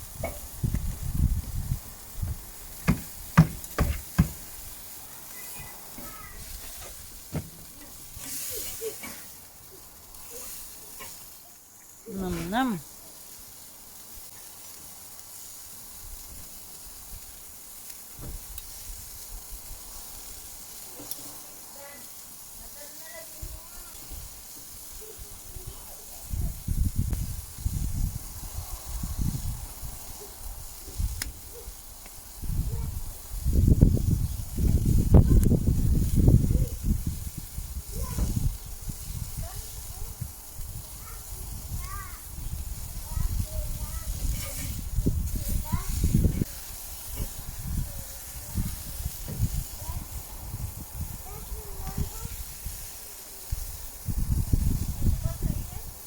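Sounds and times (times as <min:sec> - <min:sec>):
food sizzling on a grill: 0:00.0 - 0:56.0.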